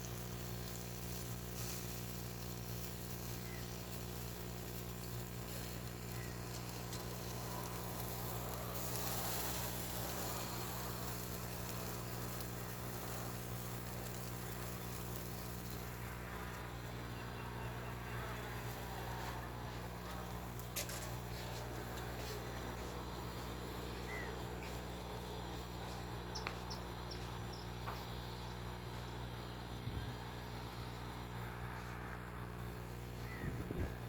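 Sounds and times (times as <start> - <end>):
faint hiss: 0.0 - 34.0
low buzzing hum: 0.0 - 34.0.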